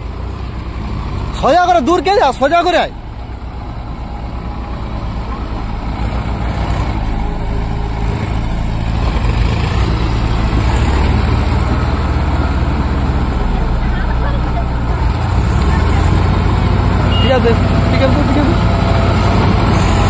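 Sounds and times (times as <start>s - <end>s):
tractor diesel engine: 0.0s - 20.0s.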